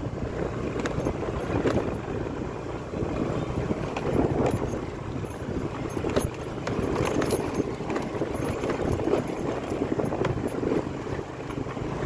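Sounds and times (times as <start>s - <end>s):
body rattling over rough ground: 0.0s - 12.0s
scooter engine rumbling: 0.0s - 12.0s.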